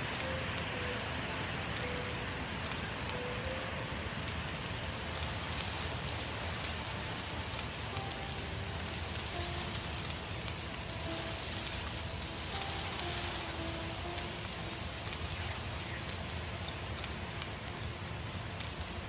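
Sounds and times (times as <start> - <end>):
fire crackling and popping: 0.0 - 19.0
forest fire rushing hiss: 0.0 - 19.0.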